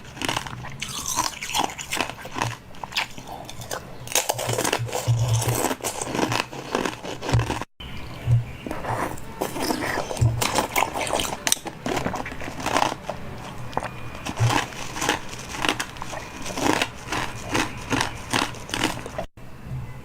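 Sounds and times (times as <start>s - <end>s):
food crunching when bitten: 0.0s - 7.7s, 8.6s - 19.3s.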